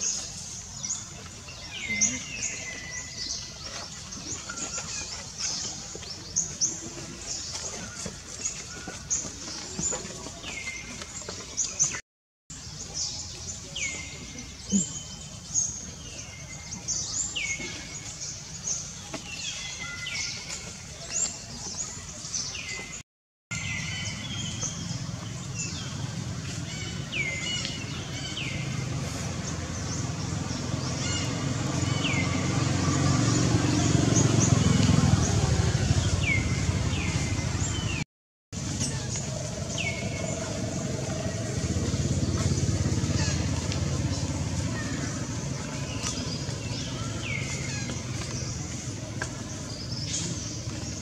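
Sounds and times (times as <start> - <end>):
birds chirping: 0.0 - 38.0, 38.6 - 51.0.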